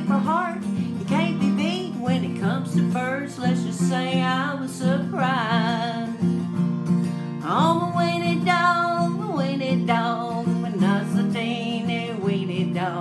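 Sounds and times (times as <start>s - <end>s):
acoustic guitar strumming: 0.0s - 13.0s
woman singing country song: 0.0s - 13.0s.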